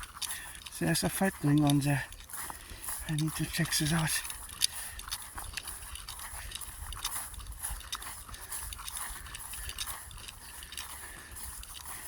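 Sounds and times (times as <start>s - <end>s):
footsteps clicking and scuffing: 0.0s - 12.0s.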